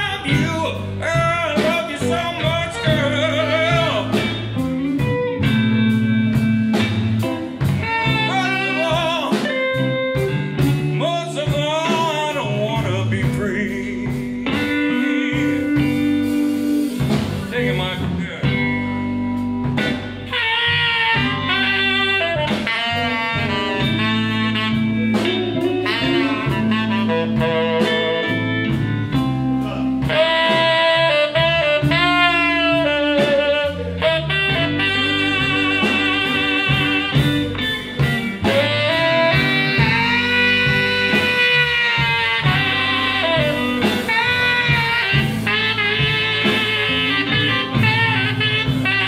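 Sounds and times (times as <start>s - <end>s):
bass guitar: 0.0s - 49.0s
drum kit: 0.0s - 49.0s
electric guitar: 0.0s - 49.0s
saxophone melody: 0.0s - 49.0s.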